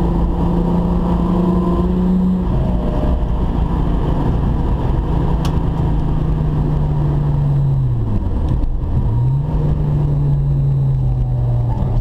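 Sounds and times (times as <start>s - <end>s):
car engine downshifting: 0.0s - 12.0s
road and tyre noise: 0.0s - 12.0s.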